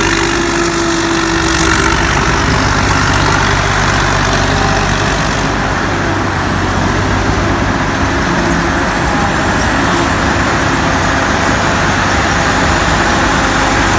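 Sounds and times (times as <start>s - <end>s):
combine harvester running: 0.0s - 13.9s.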